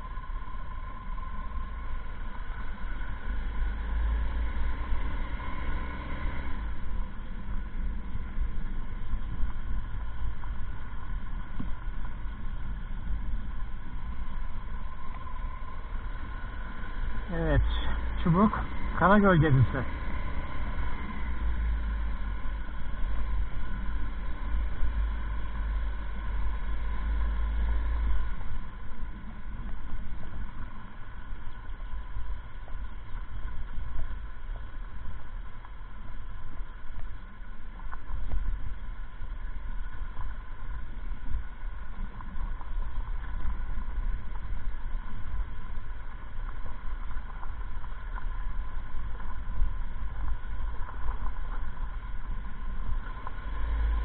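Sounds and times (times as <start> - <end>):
motorcycle engine running: 0.0 - 54.0
wind rumble on microphone: 0.0 - 54.0.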